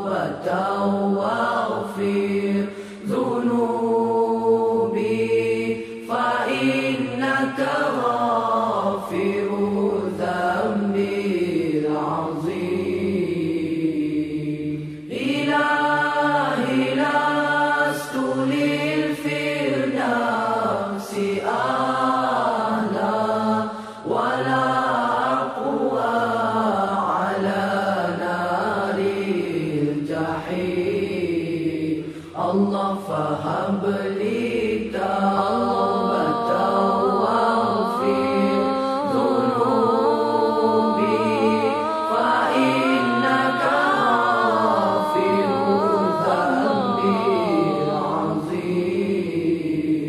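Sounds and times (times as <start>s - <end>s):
melismatic vocal chanting: 0.0s - 50.0s.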